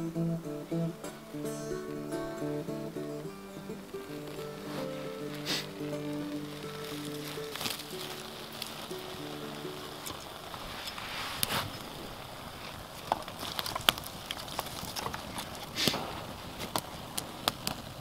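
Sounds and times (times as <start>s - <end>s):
faint steady hiss: 0.0s - 18.0s
small fire crackling and popping: 0.0s - 18.0s.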